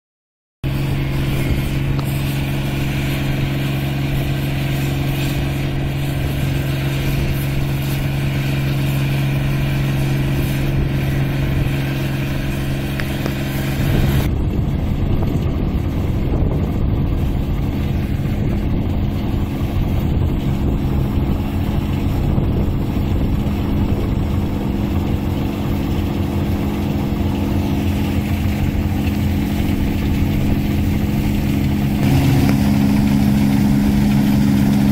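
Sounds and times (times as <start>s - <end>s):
combine harvester engine droning: 0.6s - 34.9s.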